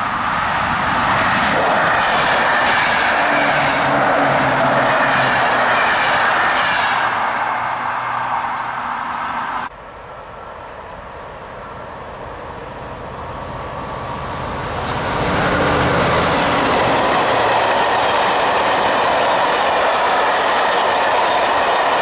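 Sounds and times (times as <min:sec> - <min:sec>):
freight train passing: 0:00.0 - 0:22.0.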